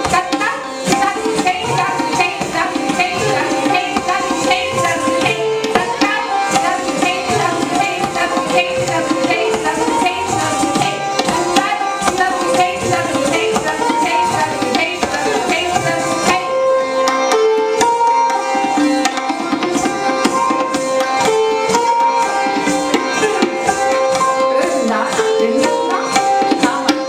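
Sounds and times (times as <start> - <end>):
sitar melody: 0.0 - 27.0
tabla playing rapid strokes: 0.0 - 27.0.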